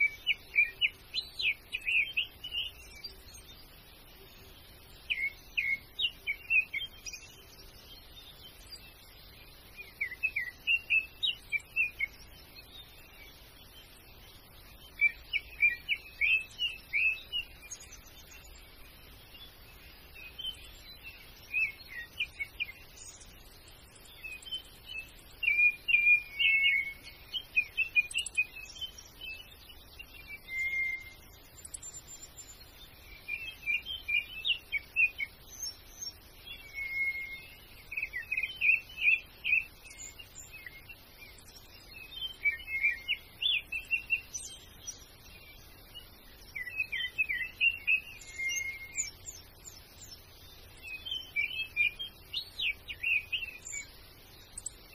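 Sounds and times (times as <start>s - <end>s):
small birds chirping and twittering: 0.0s - 54.9s.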